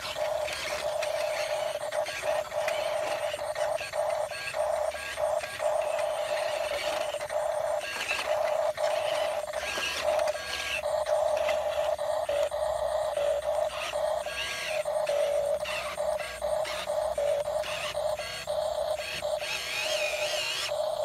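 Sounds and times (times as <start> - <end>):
toy gear motor whining: 0.0 - 21.0.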